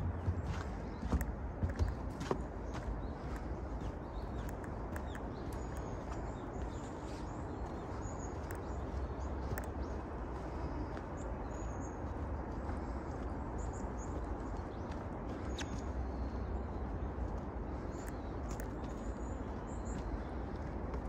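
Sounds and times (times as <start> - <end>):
footsteps crunching on trail: 0.0 - 21.0
low background rumble: 0.0 - 21.0.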